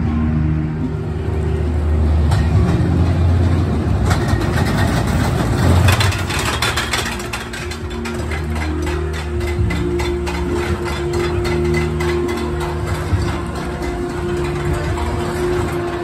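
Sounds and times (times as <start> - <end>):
roller coaster rumbling and rattling: 0.0 - 16.0.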